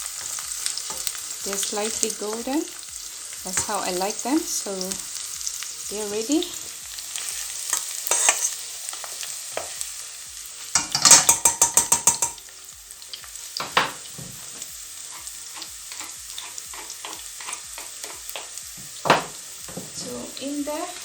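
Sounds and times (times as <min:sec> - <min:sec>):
onions sizzling in a pan: 0:00.0 - 0:21.0.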